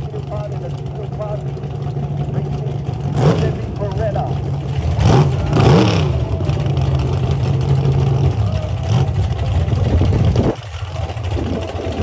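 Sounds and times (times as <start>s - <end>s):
drag race car engines: 0.0s - 12.0s.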